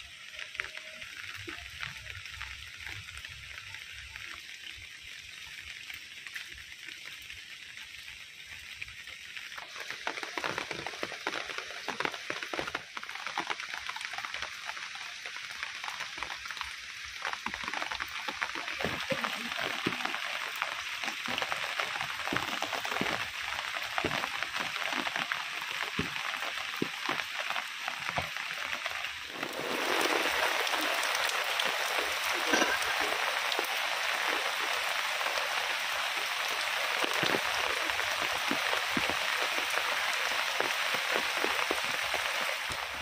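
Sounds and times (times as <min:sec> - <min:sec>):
heavy rain falling: 0:00.0 - 0:04.8, 0:07.7 - 0:43.0.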